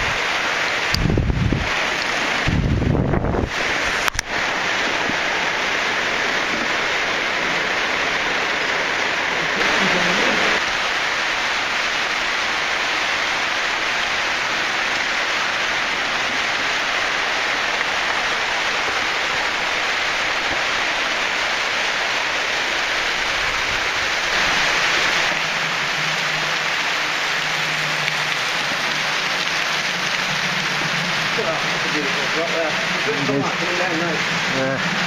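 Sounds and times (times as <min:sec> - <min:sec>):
water falling and spraying: 0:00.0 - 0:35.0.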